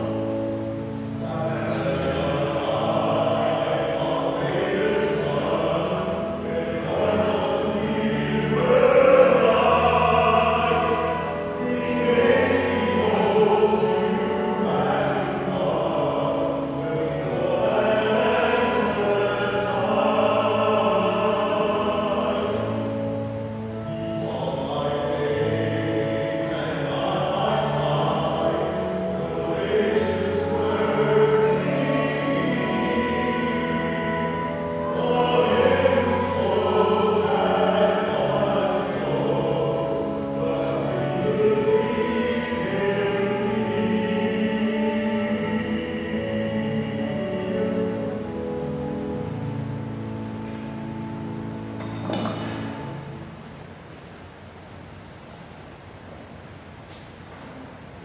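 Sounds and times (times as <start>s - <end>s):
choir singing a hymn: 0.0s - 53.6s
sustained accompaniment: 0.0s - 58.0s.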